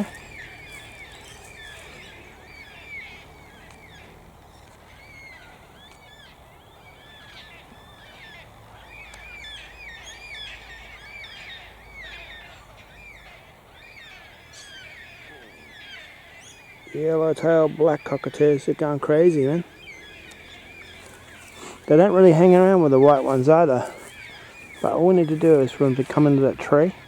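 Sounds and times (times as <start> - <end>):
flock of cockatoos calling: 0.0 - 27.0.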